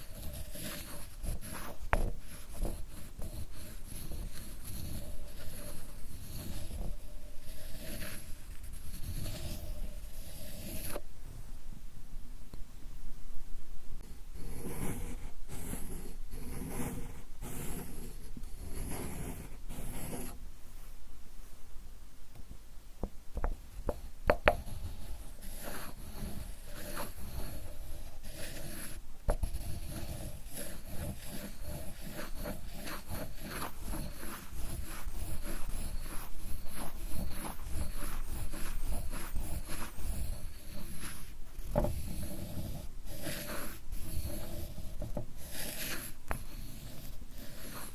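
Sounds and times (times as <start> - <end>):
ink stick rubbing on stone: 0.0 - 11.0, 14.1 - 20.4, 23.4 - 47.9.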